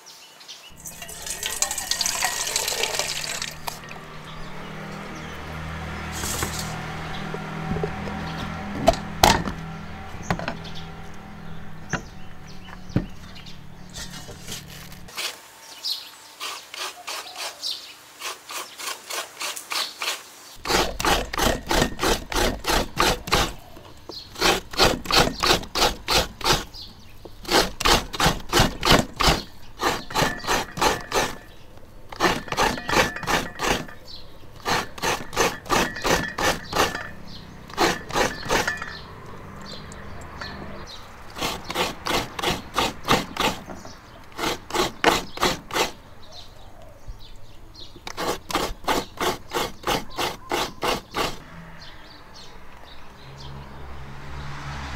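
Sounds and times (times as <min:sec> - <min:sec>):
rasping coconut scraping: 0:00.7 - 0:46.5, 0:47.8 - 0:51.6.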